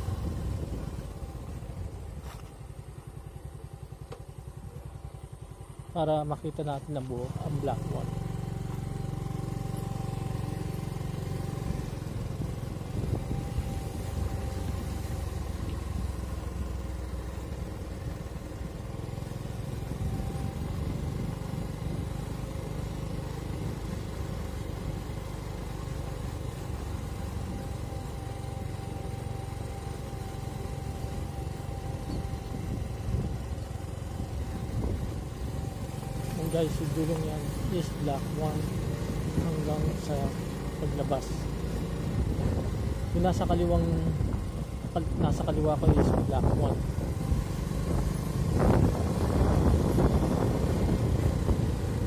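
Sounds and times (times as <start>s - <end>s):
motorcycle engine rumbling: 0.0s - 52.0s.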